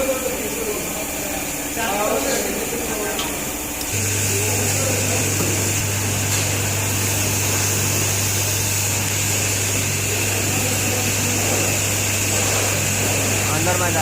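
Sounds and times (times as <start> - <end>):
motor-driven machine humming: 0.0 - 14.0.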